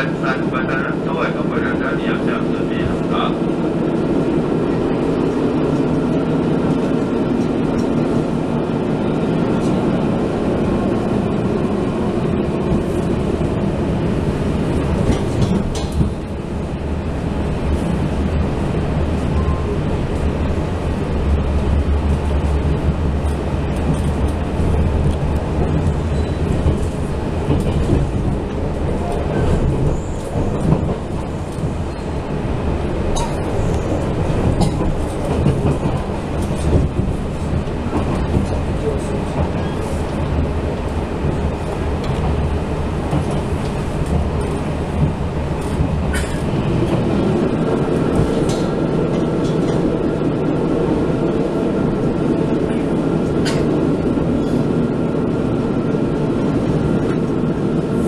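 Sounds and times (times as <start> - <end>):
rail joint clicks: 0.0 - 58.0
train wheels rumbling on rail: 0.0 - 58.0.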